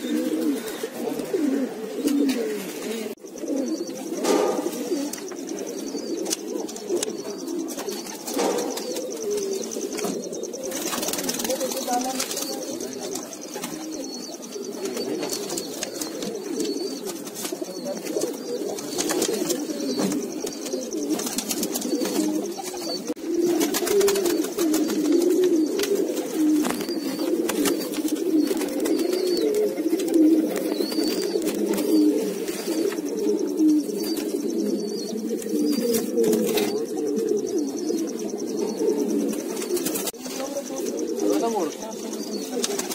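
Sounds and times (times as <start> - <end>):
pigeons cooing: 0.0 - 42.9.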